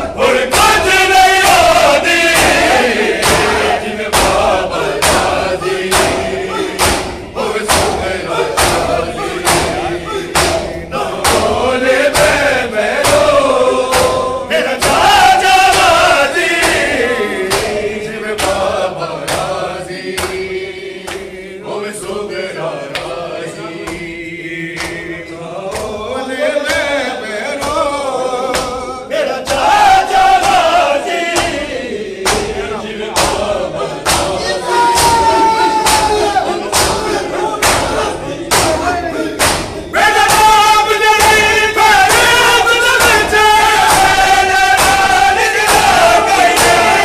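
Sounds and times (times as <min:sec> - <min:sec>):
hands slapping chests: 0:00.0 - 0:21.4, 0:22.8 - 0:26.0, 0:27.6 - 0:28.8, 0:29.5 - 0:47.0
men chanting in unison: 0:00.0 - 0:47.0.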